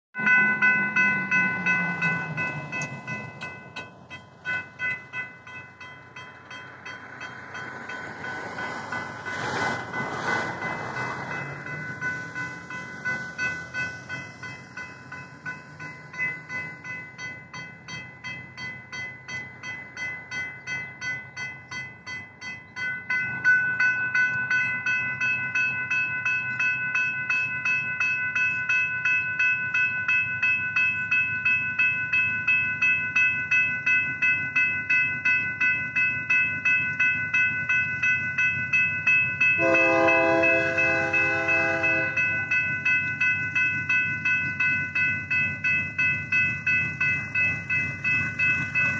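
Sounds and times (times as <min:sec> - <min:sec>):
railroad crossing bells ringing: 0:00.2 - 0:48.9.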